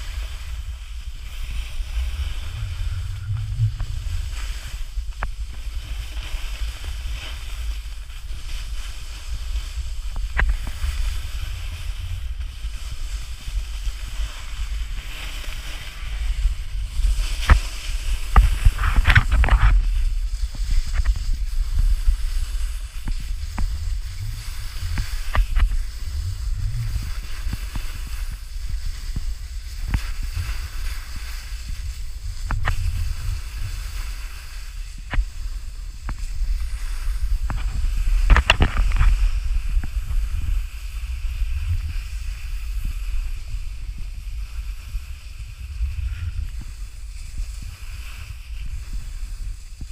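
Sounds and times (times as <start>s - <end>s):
snowboard scraping over snow: 0.0s - 49.9s
wind on microphone: 0.0s - 49.9s.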